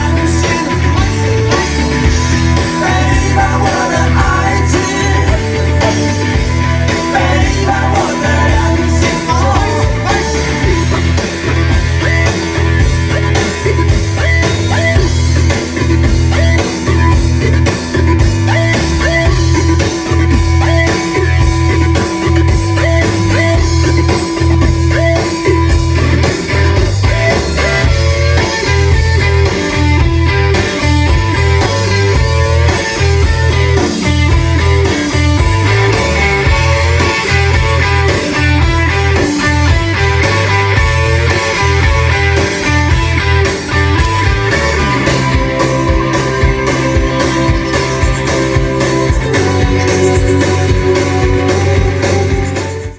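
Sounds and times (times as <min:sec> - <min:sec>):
rock music with heavy bass: 0:00.0 - 0:52.9.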